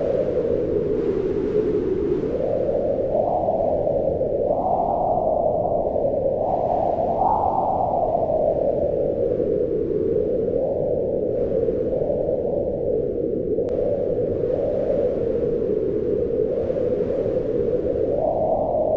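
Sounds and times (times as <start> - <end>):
howling wind: 0.0 - 18.9.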